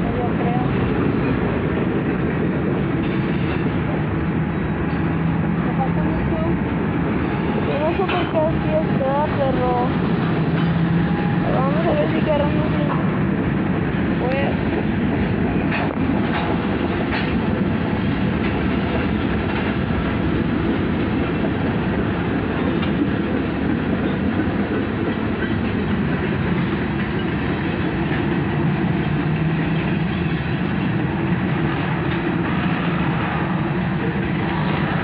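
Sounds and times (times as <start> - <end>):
freight train rumbling on rails: 0.0 - 35.0.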